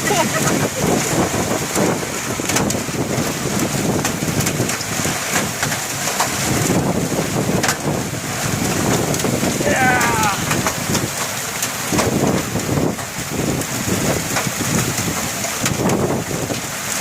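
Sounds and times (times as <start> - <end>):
heavy rain falling: 0.0 - 17.0
raindrops ticking: 0.0 - 17.0.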